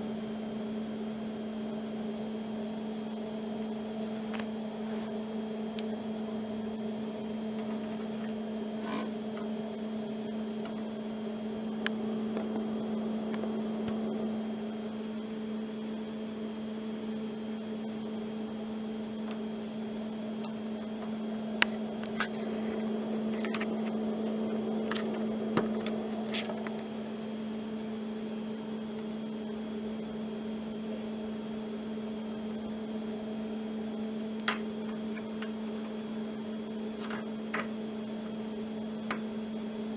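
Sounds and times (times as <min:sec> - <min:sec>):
steady two-tone hum: 0:00.0 - 0:39.9.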